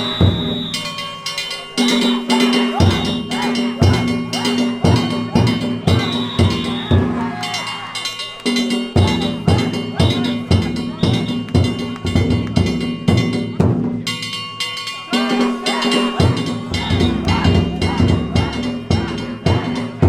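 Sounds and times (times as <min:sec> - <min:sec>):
hand gongs ringing: 0:00.0 - 0:20.0
taiko drum beat: 0:00.0 - 0:20.0.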